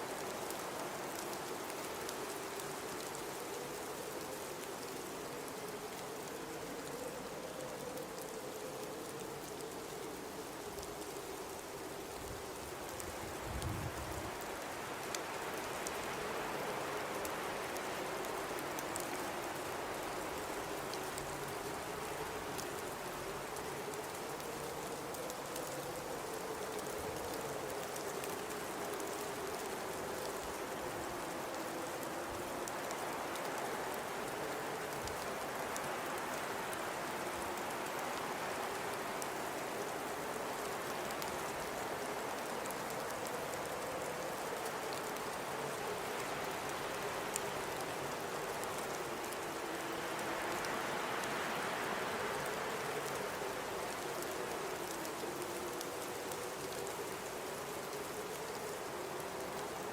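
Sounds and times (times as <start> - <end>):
blizzard wind howling: 0.0 - 59.9
faint ticks: 0.1 - 59.9.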